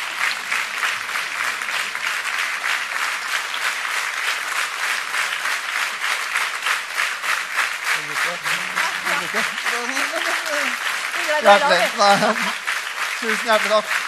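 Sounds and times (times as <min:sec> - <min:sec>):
large audience applauding: 0:00.0 - 0:14.0.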